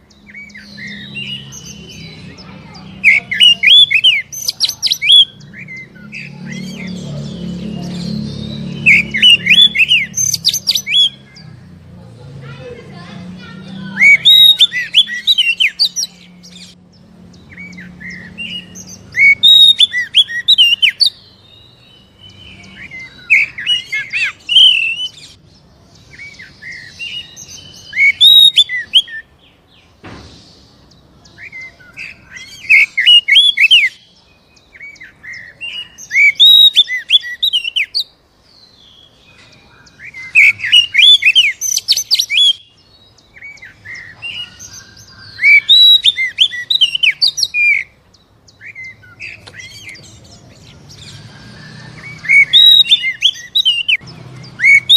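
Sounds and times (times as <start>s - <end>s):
magpie-robin singing: 0.0s - 54.9s.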